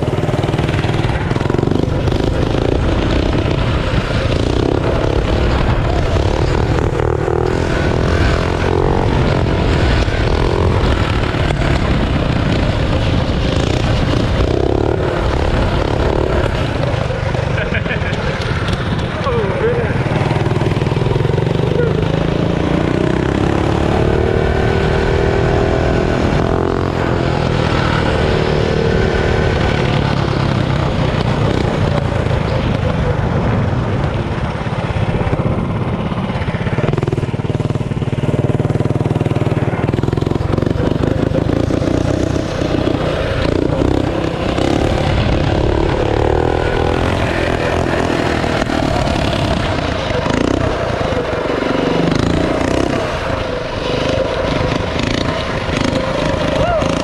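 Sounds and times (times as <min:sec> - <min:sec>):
mini bike engine revving: 0:00.0 - 0:57.0.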